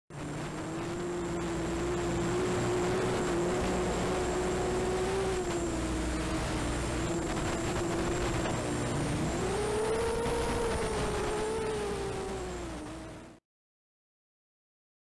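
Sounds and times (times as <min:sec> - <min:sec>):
quadcopter motors buzzing: 0:00.1 - 0:13.4
constant hiss: 0:00.2 - 0:13.4.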